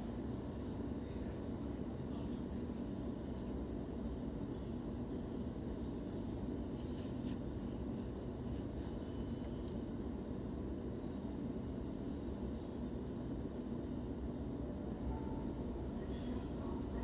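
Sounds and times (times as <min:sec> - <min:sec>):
train carriage hum and rumble: 0:00.0 - 0:17.0.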